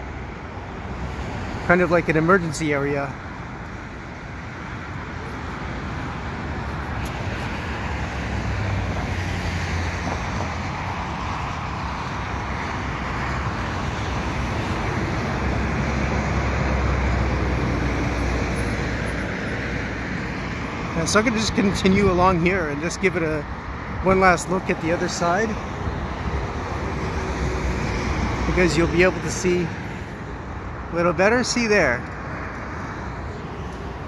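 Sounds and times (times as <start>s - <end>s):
highway traffic: 0.0s - 34.0s.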